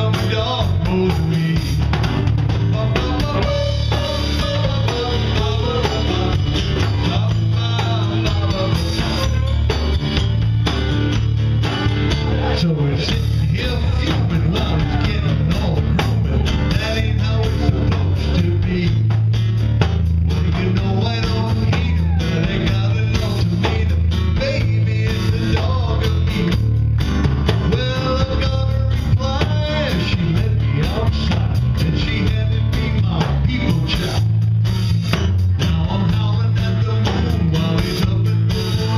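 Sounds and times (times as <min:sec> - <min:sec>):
man singing: 0:00.0 - 0:10.4, 0:12.0 - 0:19.4, 0:20.2 - 0:38.9
electric bass: 0:00.0 - 0:38.9
electric guitar: 0:00.0 - 0:38.9
strummed acoustic guitar: 0:00.0 - 0:38.9.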